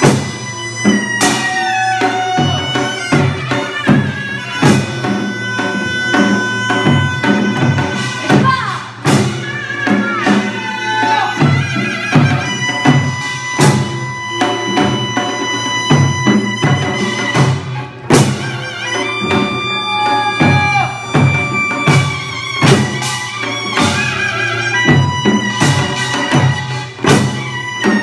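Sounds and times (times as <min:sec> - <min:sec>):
drum strokes: 0:00.0 - 0:28.0
reedy wind instrument: 0:00.0 - 0:28.0.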